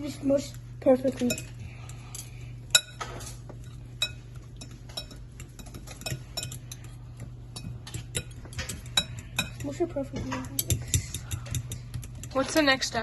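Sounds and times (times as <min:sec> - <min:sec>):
steady low hum: 0:00.0 - 0:13.0
cutlery scraping a bowl: 0:01.2 - 0:13.0.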